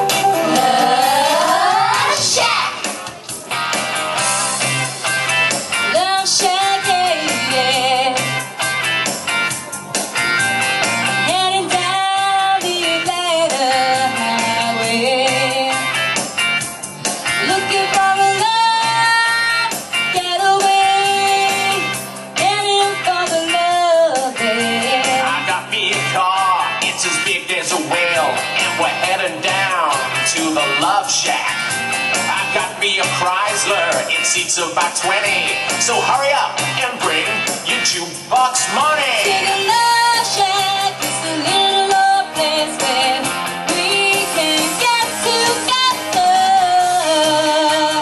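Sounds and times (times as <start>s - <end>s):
pop music with singing and guitar: 0.0s - 48.0s.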